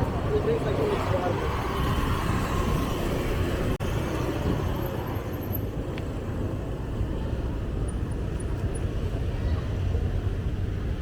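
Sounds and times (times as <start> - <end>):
passing traffic: 0.0 - 11.0.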